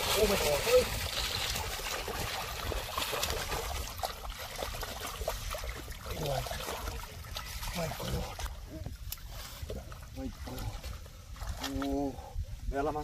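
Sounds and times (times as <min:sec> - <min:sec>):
wet splashes and squelches in mud: 0:00.0 - 0:12.1
water trickling and sloshing: 0:00.0 - 0:13.0.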